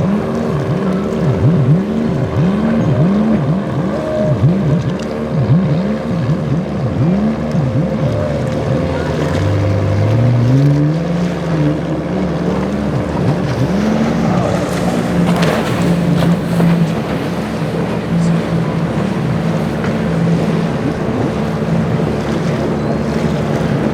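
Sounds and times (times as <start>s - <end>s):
motorboat engines running hard: 0.0s - 23.9s
rushing water: 0.0s - 23.9s
wind: 0.0s - 23.9s.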